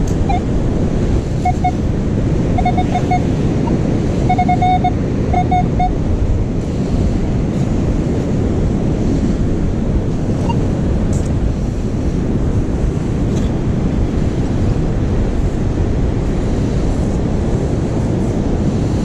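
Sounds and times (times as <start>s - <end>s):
ocean surf: 0.0s - 19.0s
wind buffeting microphone: 0.0s - 19.0s.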